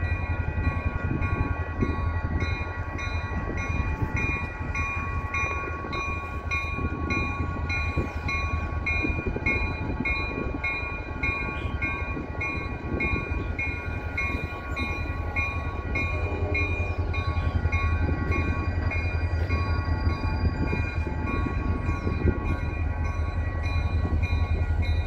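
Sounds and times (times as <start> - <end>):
diesel locomotive rumble: 0.0 - 25.0
locomotive bell ringing: 0.0 - 25.0.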